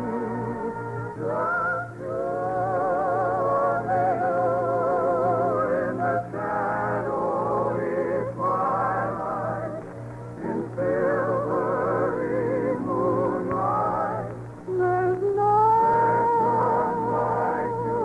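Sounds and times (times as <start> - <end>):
person singing with vibrato: 0.0 - 18.0.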